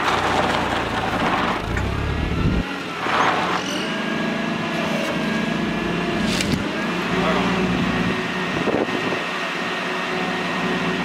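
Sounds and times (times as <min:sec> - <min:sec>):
forklift engine humming: 0:00.0 - 0:11.0.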